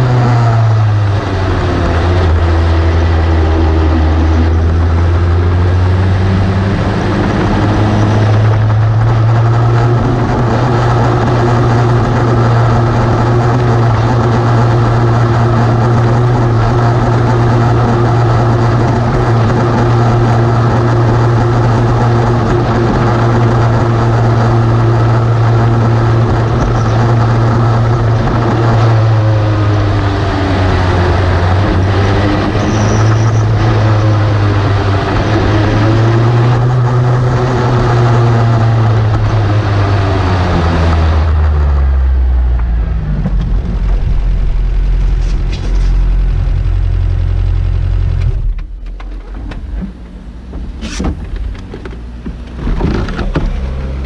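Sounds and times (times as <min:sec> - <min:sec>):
race car engine running: 0:00.0 - 0:54.0.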